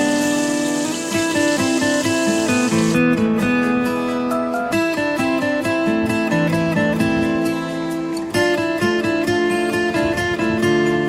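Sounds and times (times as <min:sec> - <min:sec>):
acoustic guitar background music: 0:00.0 - 0:11.0.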